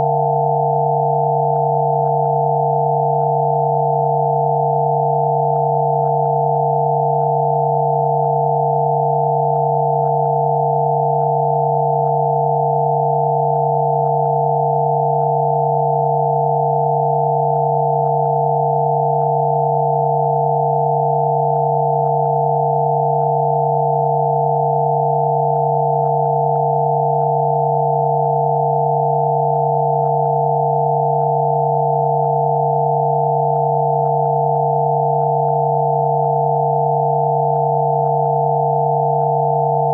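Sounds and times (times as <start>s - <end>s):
steady electronic sine tones: 0.0s - 39.9s.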